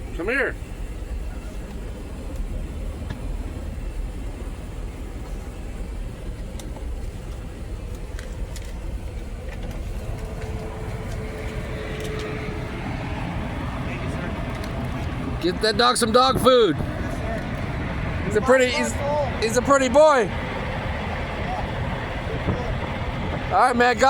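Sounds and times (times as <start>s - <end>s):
diesel truck engine idling: 0.0s - 24.0s
thin steady hum: 0.0s - 24.0s.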